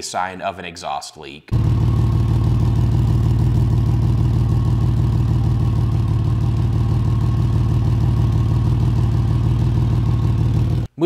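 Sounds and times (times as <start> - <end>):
car exhaust rumbling: 1.5 - 10.9.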